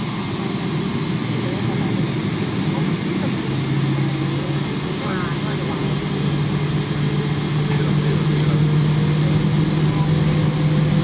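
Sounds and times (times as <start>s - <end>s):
airliner engines humming in cabin: 0.0s - 11.0s.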